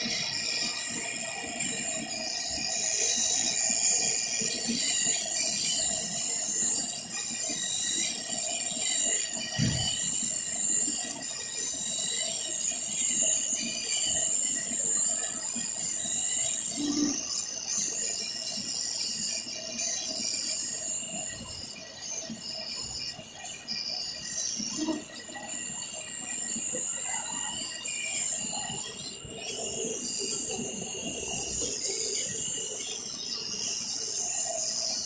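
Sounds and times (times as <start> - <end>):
cutting machine whine: 0.0 - 35.0.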